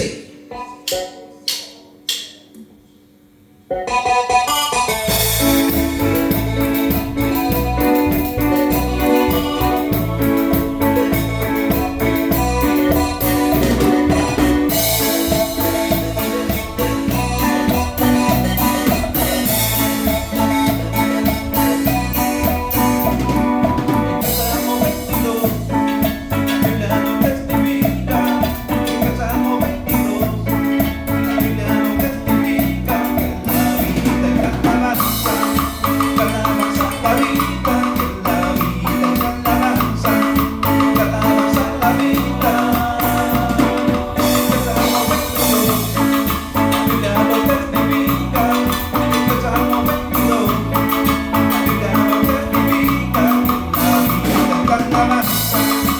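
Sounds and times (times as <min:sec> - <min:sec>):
marimba-like melody: 0:00.0 - 0:02.2, 0:03.7 - 0:55.9
bass line: 0:03.9 - 0:55.9
driving percussion beat: 0:04.3 - 0:55.9.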